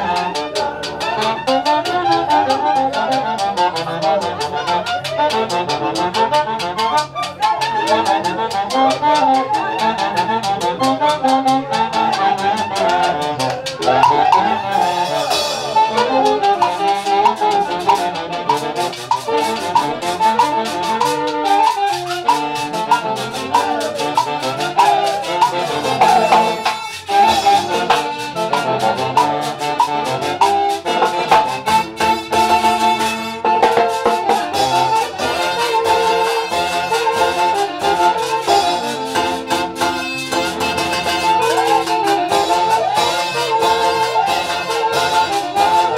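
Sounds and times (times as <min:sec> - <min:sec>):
folk orchestra dance music: 0:00.0 - 0:45.9
trumpets and brass: 0:00.0 - 0:45.9.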